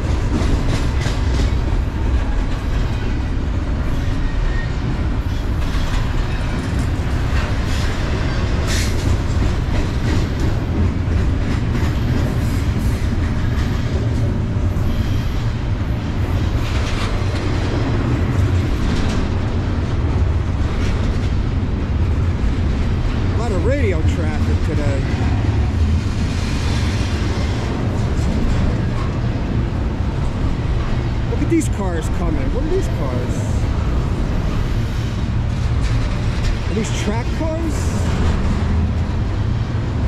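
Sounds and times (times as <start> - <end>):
steel wheels rumbling on rail: 0.0 - 40.0
train cars knocking and clanking: 0.0 - 40.0.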